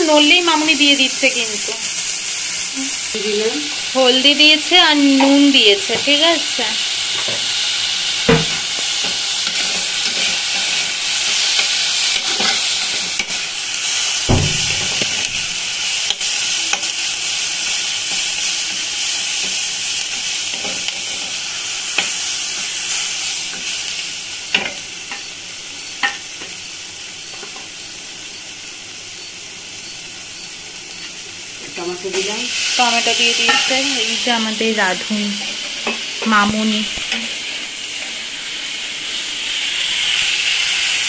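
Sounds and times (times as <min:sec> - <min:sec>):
onions sizzling in hot oil: 0:00.0 - 0:41.0.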